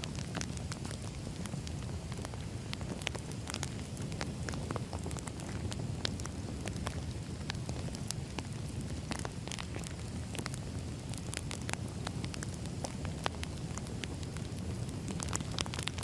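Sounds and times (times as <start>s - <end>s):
crackles and pops of fire: 0.0s - 16.0s
firewood burning: 0.0s - 16.0s.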